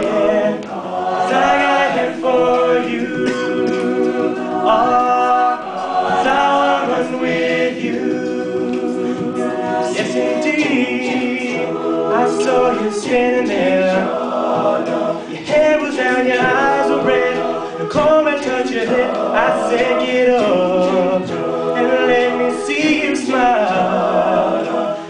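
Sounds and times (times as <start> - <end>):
male a cappella group singing: 0.0 - 25.0.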